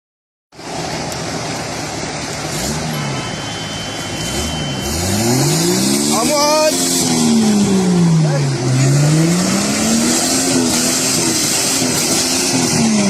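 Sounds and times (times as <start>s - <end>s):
truck engine revving: 0.6s - 13.0s.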